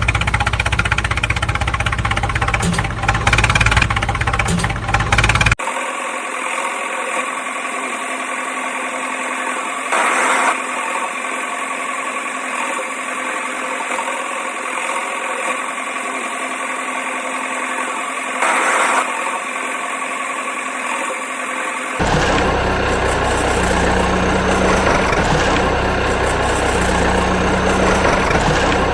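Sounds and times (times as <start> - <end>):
toy vehicle motor running: 0.0 - 28.9.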